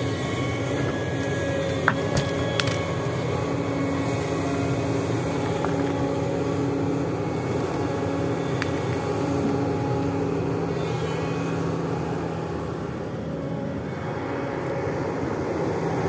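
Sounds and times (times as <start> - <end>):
excavator diesel engine running: 0.0 - 16.0
faint steady whine: 0.0 - 16.0.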